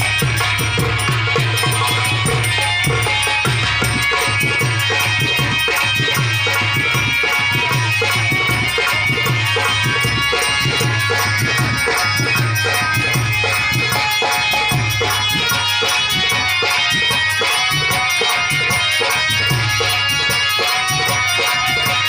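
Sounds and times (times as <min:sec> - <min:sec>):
hand drum beat: 0:00.0 - 0:22.0
harmonium melody: 0:00.0 - 0:22.0.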